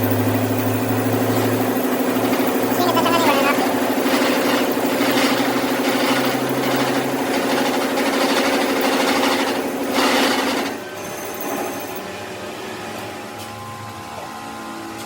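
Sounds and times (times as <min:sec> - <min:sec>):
workshop machine humming and rattling: 0:00.0 - 0:15.0.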